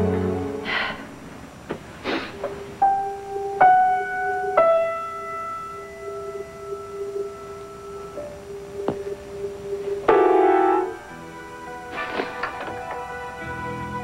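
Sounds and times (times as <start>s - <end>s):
slow piano notes: 0.0s - 1.2s, 2.4s - 14.0s.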